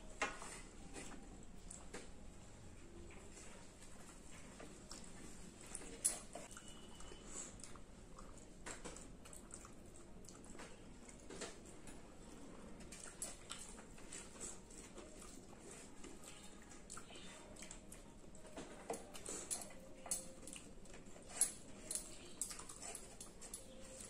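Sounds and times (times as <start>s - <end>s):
chewing and lip-smacking: 3.1s - 24.0s.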